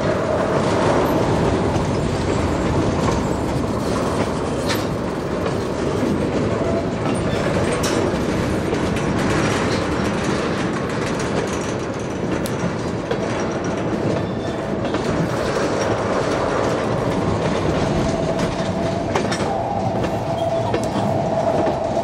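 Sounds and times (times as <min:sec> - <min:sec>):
diesel locomotive running: 0:00.0 - 0:22.0
wheels clicking over rail joints: 0:00.0 - 0:22.0.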